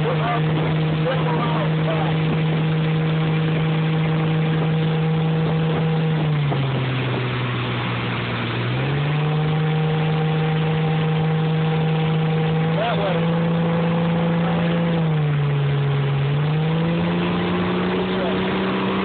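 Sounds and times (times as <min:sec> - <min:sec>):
rush of boat wake and wind: 0:00.0 - 0:19.0
speedboat engine running: 0:00.0 - 0:19.0.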